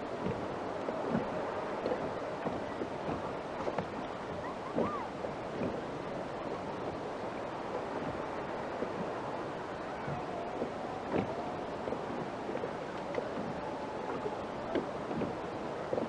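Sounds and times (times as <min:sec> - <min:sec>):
sea water washing: 0:00.0 - 0:16.0
wind on microphone: 0:00.0 - 0:16.0.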